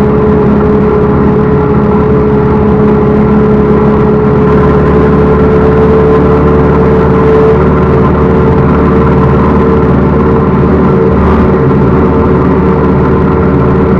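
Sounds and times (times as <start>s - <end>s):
diesel engine running: 0.0s - 13.9s
steady whine: 0.0s - 13.9s.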